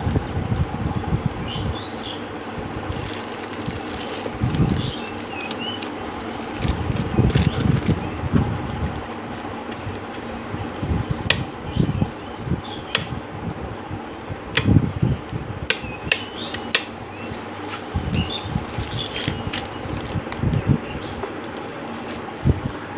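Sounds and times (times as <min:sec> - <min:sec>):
steady background hum: 0:00.0 - 0:22.9.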